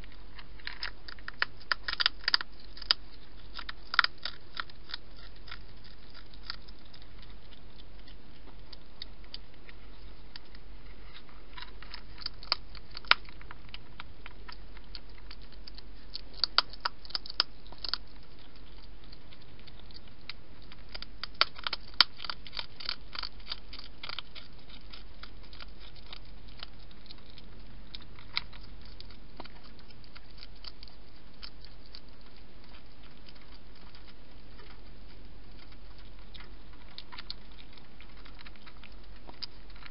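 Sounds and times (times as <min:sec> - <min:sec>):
hedgehog crunching food: 0:00.0 - 0:39.9.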